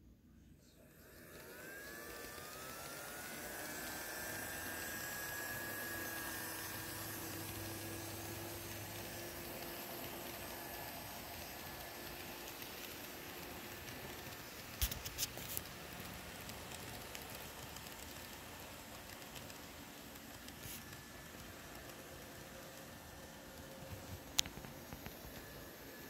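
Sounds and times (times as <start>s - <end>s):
model train engine hum: 0.0s - 26.0s
steady hiss: 4.8s - 26.0s.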